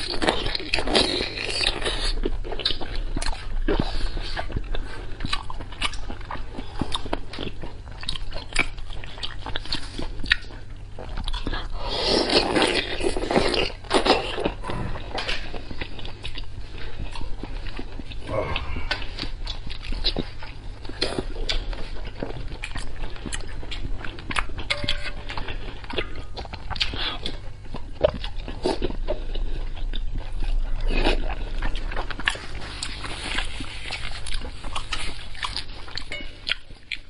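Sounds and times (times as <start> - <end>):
wet slurping and chewing: 0.0 - 37.0.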